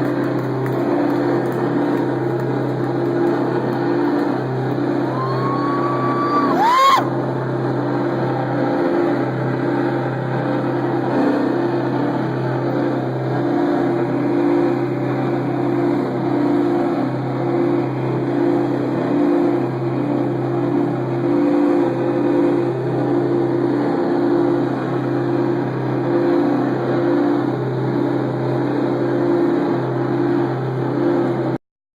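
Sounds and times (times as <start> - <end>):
distorted guitar and bass drone: 0.0 - 31.6.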